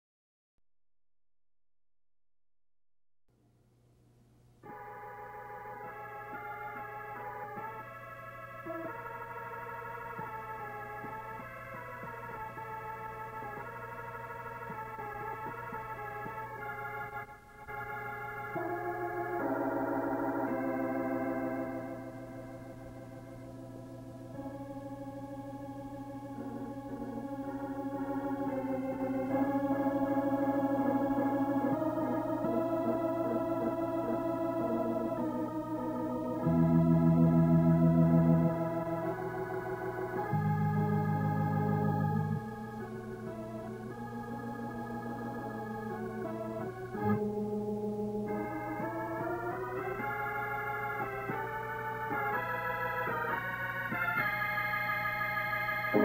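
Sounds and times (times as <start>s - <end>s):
organ playing slow chords: 4.6s - 56.0s.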